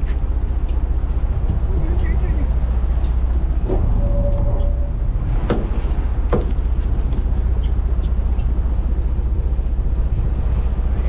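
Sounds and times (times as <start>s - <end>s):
boat engine rumbling: 0.0s - 11.0s
wind and sea: 0.0s - 11.0s.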